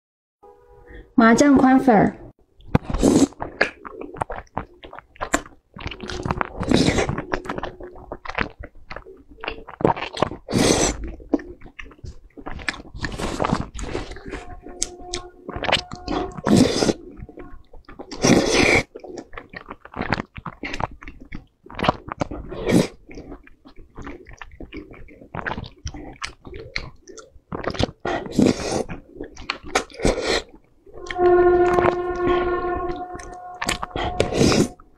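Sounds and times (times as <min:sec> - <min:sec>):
slurping noodles: 0:02.6 - 0:34.9
wet chewing mouth sounds: 0:02.6 - 0:34.9.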